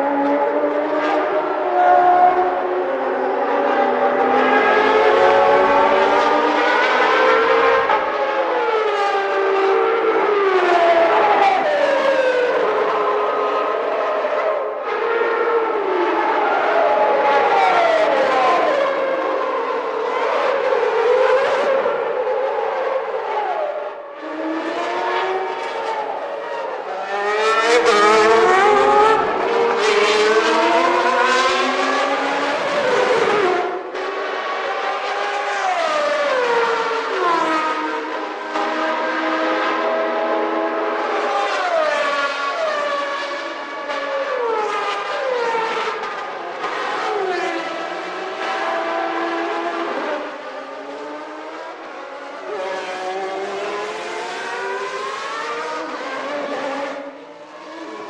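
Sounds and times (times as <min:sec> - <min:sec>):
racing car engines screaming: 0:00.0 - 0:58.0.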